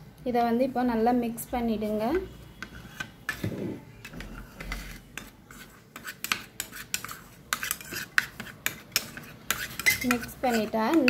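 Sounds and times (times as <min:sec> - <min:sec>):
spoon scraping paste in bowl: 0:01.8 - 0:11.0.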